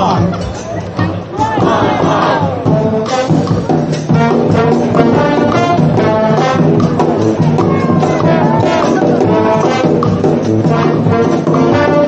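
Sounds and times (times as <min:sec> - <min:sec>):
brass band playing: 0:01.0 - 0:12.0.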